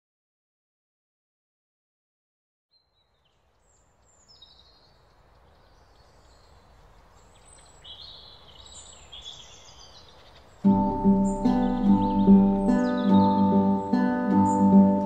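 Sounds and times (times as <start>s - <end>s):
low background noise: 2.7s - 15.0s
small birds chirping: 2.7s - 15.0s.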